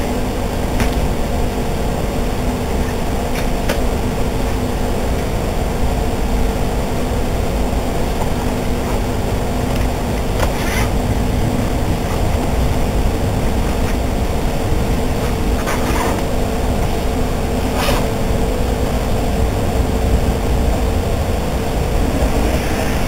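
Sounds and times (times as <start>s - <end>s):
steady hum: 0.0s - 23.0s
train wheels rumbling on rails: 0.0s - 23.0s.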